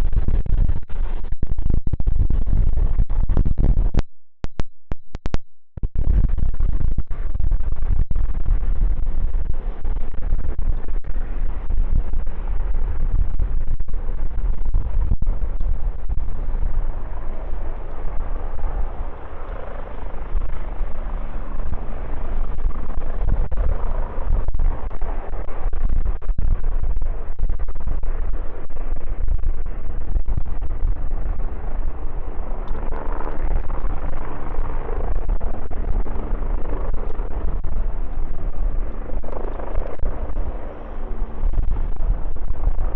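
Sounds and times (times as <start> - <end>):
wind buffeting microphone: 0.0 - 4.0, 5.9 - 42.9
jet engines running: 6.2 - 42.9.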